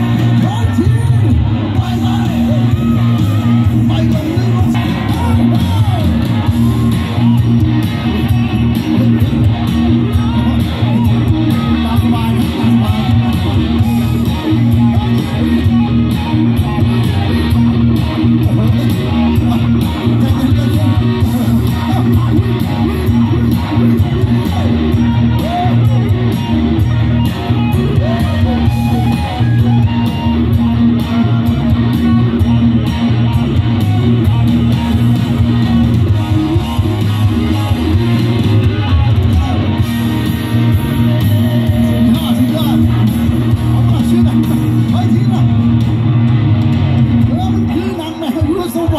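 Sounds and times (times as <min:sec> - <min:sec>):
bass guitar: 0:00.0 - 0:48.9
electric guitar: 0:00.0 - 0:48.9
live rock band: 0:00.0 - 0:48.9.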